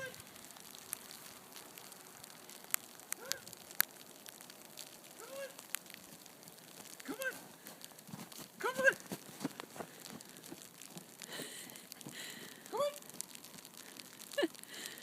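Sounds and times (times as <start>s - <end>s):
freezing rain ticking: 0.0s - 15.0s.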